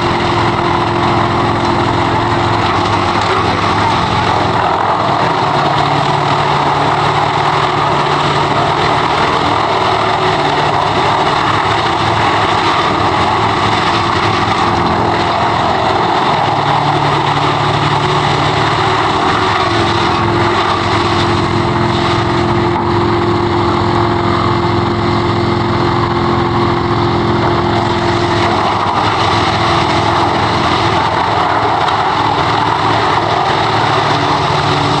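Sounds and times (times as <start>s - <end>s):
wood chipper running: 0.0s - 35.0s.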